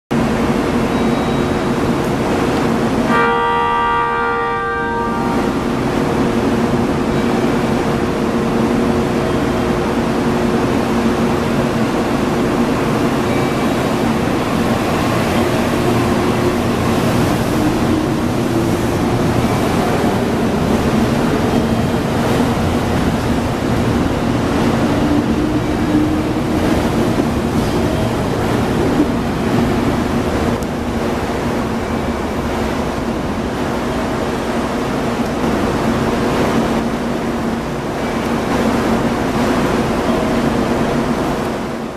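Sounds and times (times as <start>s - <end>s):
electric train running past: 0.2s - 41.9s.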